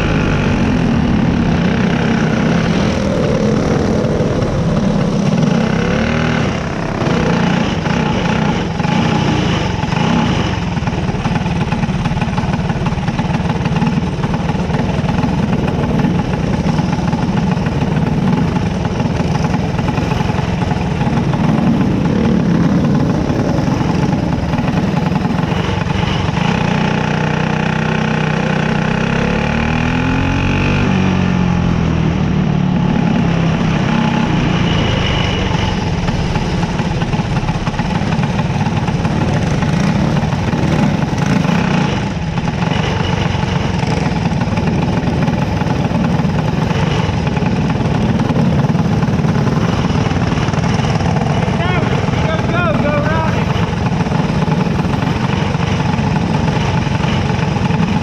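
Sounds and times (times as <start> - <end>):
racing car engine running: 0.0 - 58.0.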